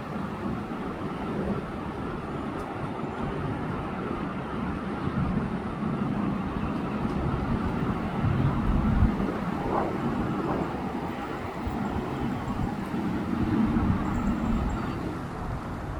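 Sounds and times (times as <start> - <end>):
jet airliner flying over: 0.0 - 15.9.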